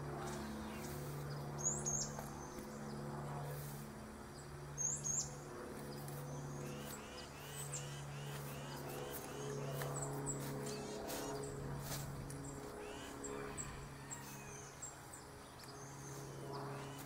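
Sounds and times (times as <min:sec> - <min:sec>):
low hum: 0:00.0 - 0:17.0
small birds chirping: 0:00.2 - 0:03.7, 0:04.3 - 0:17.0.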